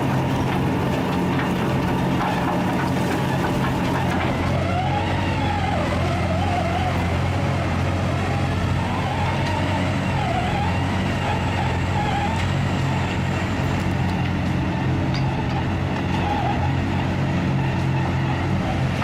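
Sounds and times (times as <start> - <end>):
diesel machinery running: 0.0 - 19.0.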